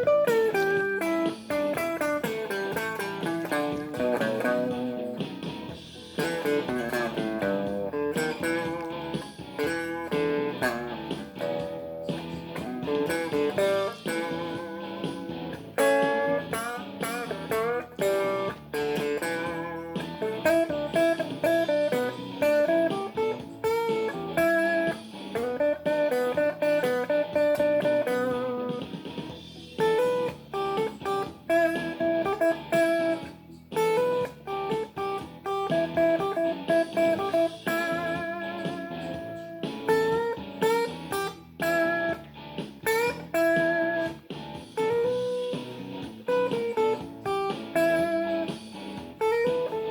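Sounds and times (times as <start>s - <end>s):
blues guitar playing: 0.0s - 49.9s.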